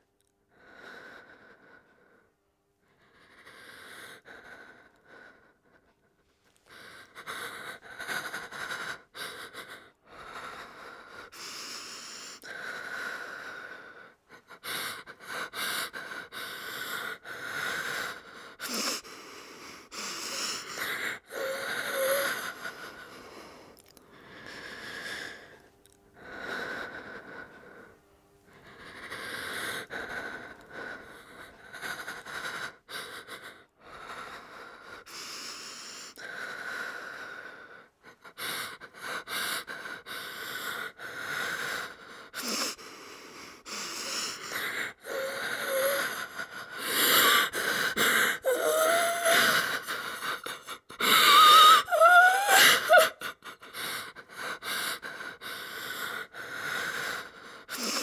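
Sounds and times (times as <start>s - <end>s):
woman breathing heavily: 0.5s - 58.0s.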